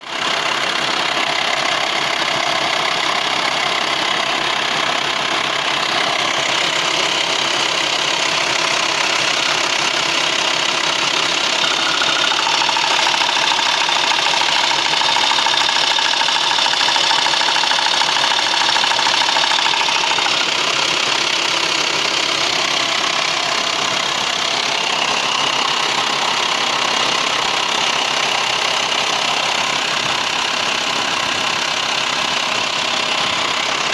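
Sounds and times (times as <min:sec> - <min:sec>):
diesel engine idling with clatter: 0:00.0 - 0:33.9.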